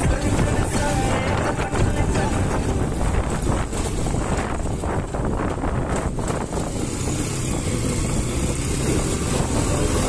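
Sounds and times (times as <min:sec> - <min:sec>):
motorcycle engine running: 0:00.0 - 0:10.0
road noise: 0:00.0 - 0:10.0.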